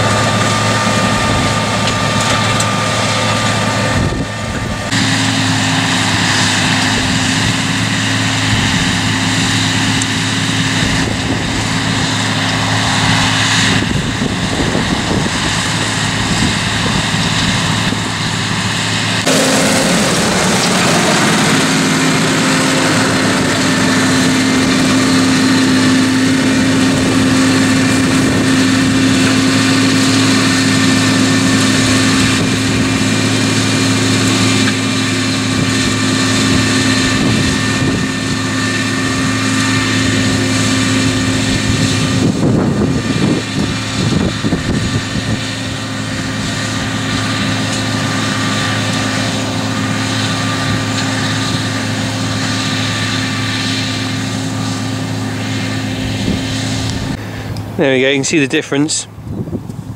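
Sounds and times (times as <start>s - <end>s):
tractor diesel engine droning: 0.0s - 59.9s
uneven rumbling: 0.0s - 59.9s.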